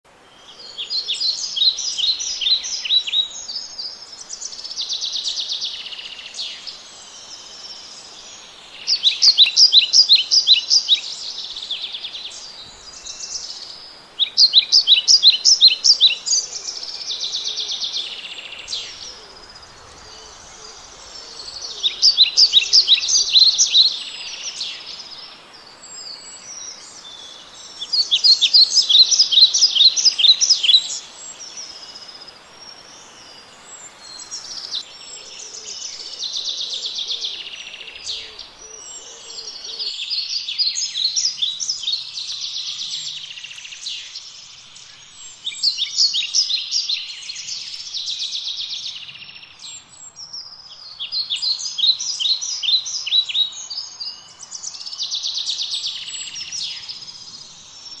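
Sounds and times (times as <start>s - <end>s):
songbirds trilling: 0.1s - 58.0s.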